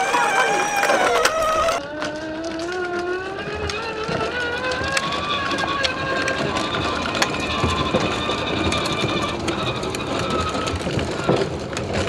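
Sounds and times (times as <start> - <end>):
plastic tricycle rolling: 0.0 - 12.0
plastic wheels rumbling on concrete: 0.0 - 12.0.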